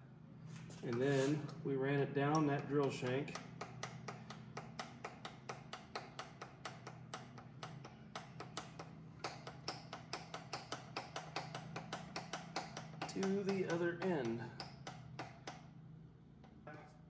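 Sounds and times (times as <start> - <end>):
mill table low hum: 0.0 - 17.0.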